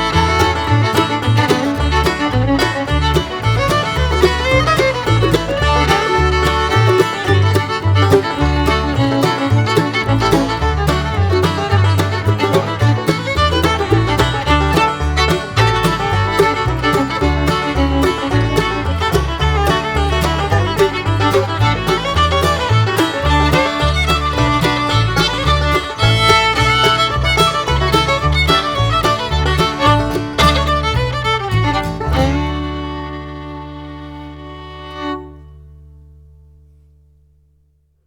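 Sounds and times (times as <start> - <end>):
upbeat fiddle music with beat: 0.0 - 35.9.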